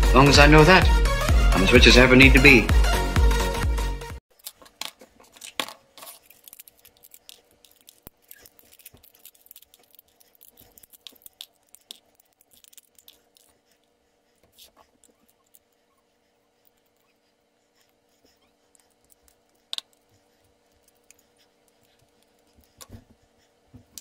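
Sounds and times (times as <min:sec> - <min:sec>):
faint steady hum: 0:04.4 - 0:24.0.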